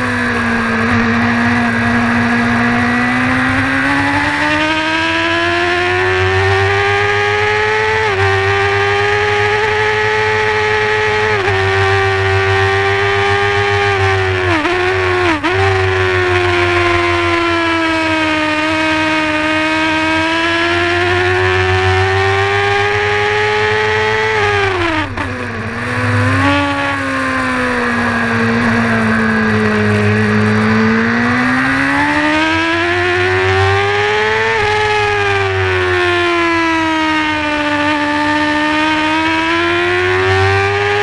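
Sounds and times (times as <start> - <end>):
motorcycle engine at high revs: 0.0 - 41.0.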